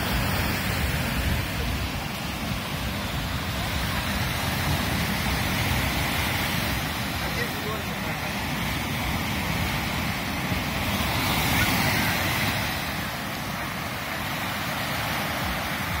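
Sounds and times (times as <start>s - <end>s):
waves breaking on a beach: 0.0s - 16.0s
wind rumbling on microphone: 0.0s - 16.0s.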